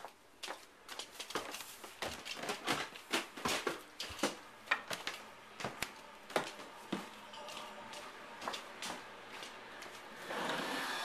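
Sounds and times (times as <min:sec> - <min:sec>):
footsteps on wooden stairs: 0:00.0 - 0:10.0.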